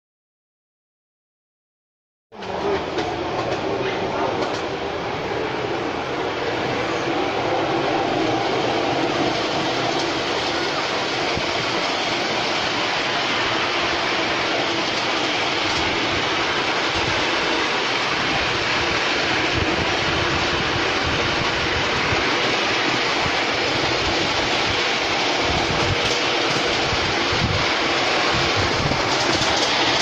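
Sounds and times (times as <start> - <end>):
train wheels rolling on rails: 2.3 - 30.0.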